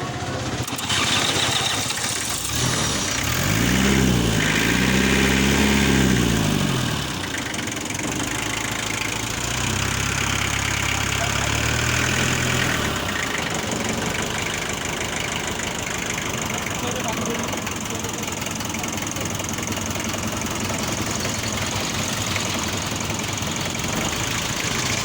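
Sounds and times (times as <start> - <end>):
car engine revving and idling: 0.0 - 25.0.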